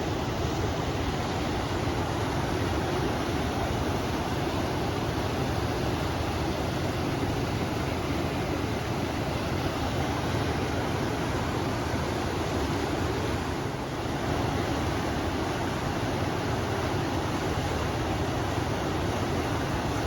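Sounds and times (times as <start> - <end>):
river flowing: 0.0 - 20.0
wind: 0.0 - 20.0.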